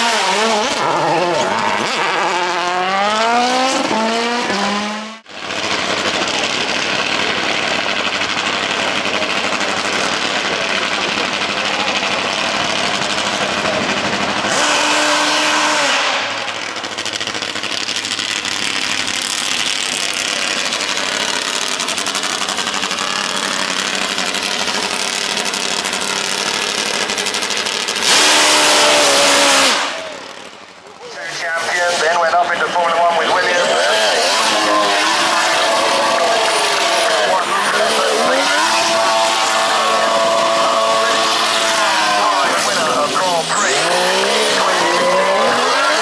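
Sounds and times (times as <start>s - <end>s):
car engines rattling: 0.0s - 46.0s.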